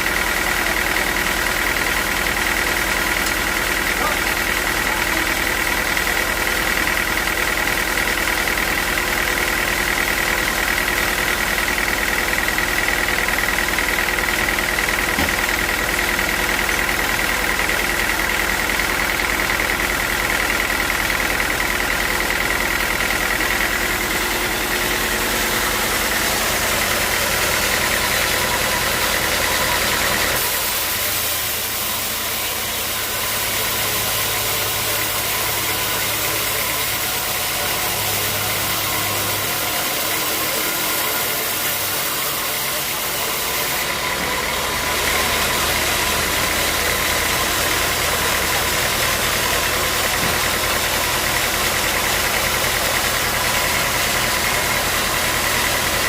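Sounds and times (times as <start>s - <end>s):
bandsaw sawmill sawing log: 0.0s - 56.0s.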